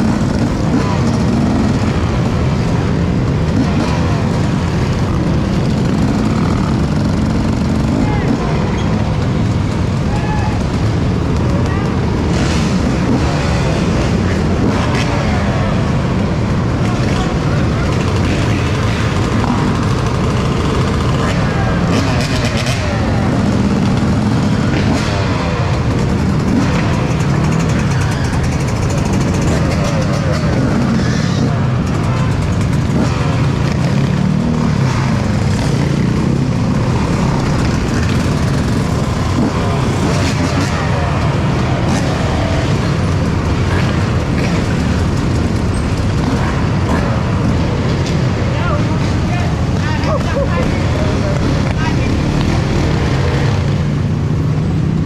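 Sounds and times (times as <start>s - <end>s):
dirt bike engines: 0.0s - 55.0s
heavy wind noise: 0.0s - 55.0s.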